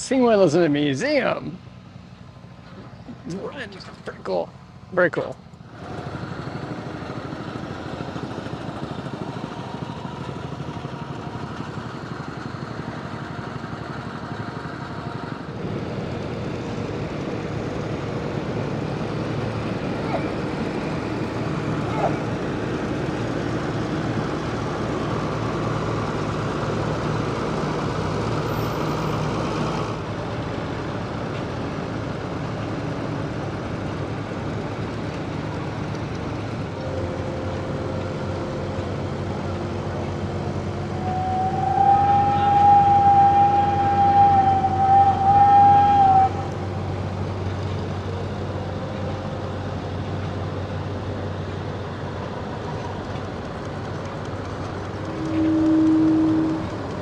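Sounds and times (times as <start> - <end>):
engines running: 0.0 - 57.0.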